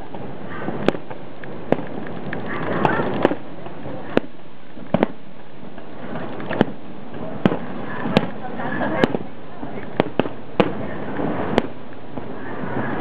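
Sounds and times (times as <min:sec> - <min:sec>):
firework shells bursting: 0:00.0 - 0:12.4
background hiss: 0:00.0 - 0:13.0.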